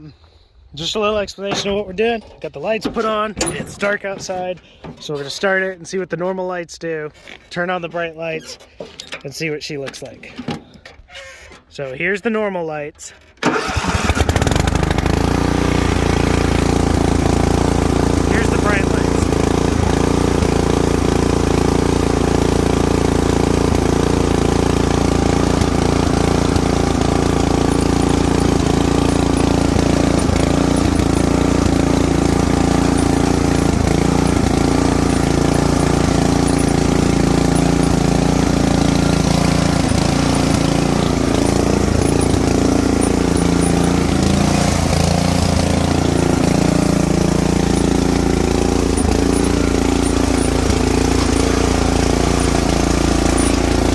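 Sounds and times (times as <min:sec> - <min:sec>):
lawn mower engine running: 0:00.0 - 0:05.2, 0:13.1 - 0:53.9.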